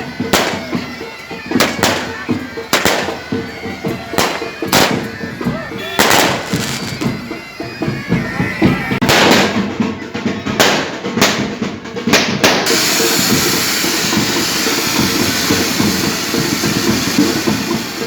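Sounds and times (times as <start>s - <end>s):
fireworks hiss: 0.0s - 9.8s, 10.6s - 18.0s
fireworks bangs: 0.0s - 18.0s
loud band music: 0.0s - 18.0s.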